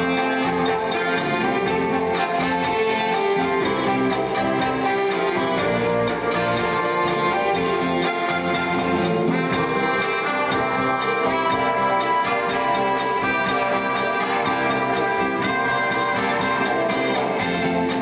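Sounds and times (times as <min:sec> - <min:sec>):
cha-cha-cha dance music with brass: 0:00.0 - 0:18.0.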